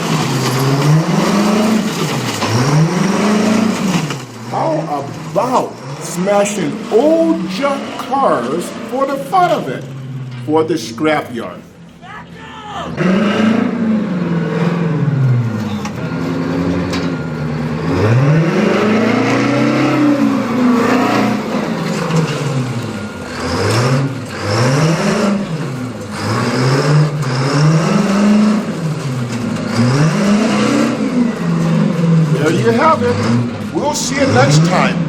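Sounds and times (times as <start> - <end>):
dump truck diesel engine revving: 0.0 - 11.9, 12.9 - 35.0.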